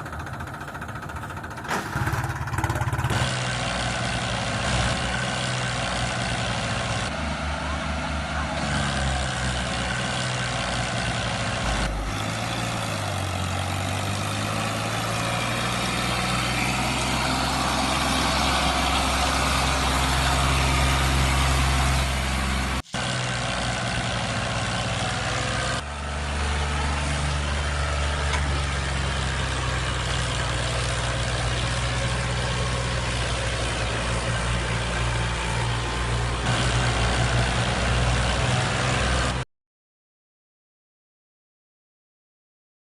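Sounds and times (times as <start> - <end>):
tractor engine running: 0.0 - 39.4.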